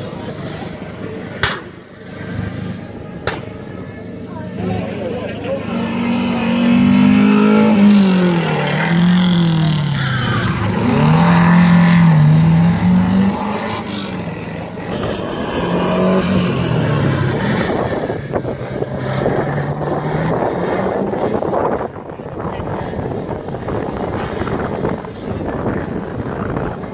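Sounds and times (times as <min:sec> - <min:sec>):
rally car engine revving: 0:04.6 - 0:26.9.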